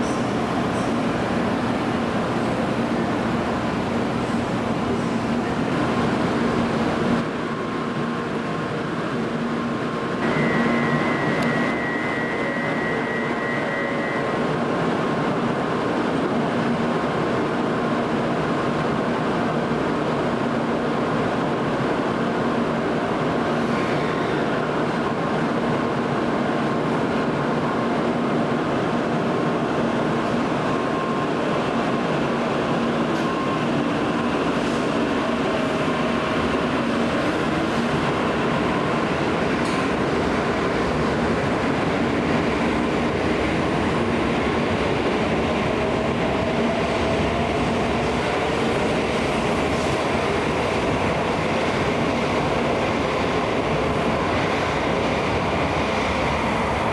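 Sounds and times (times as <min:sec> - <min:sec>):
train rushing hiss and hum: 0:00.0 - 0:56.9.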